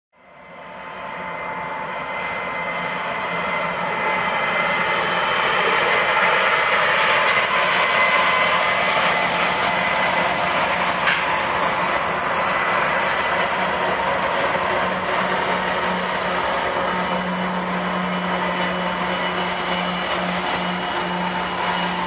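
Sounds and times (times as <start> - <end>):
model train whirring: 0.3 - 22.0.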